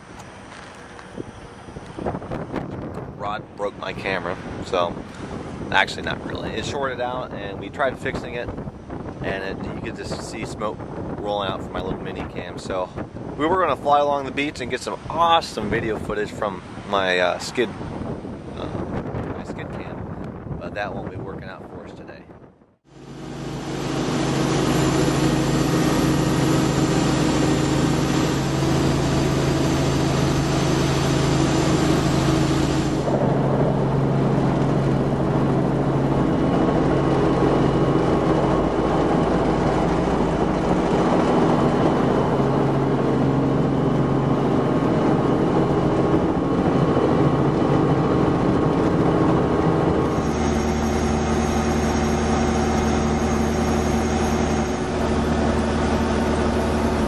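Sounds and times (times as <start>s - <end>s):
helicopter engine and rotors: 0.0s - 21.8s, 22.9s - 57.0s.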